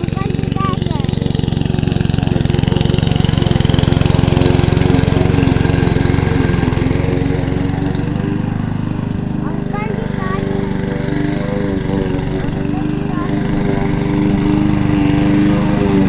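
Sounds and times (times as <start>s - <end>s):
lawn mower cutting grass: 0.0s - 16.0s.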